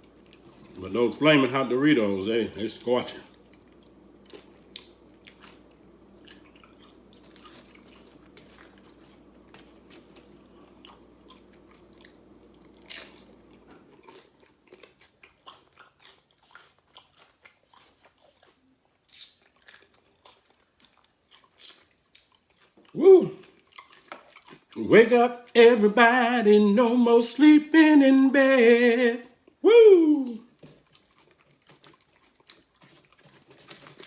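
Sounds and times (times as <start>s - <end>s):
chips crunching while chewed: 0.0s - 1.4s, 2.6s - 27.1s, 30.5s - 34.0s.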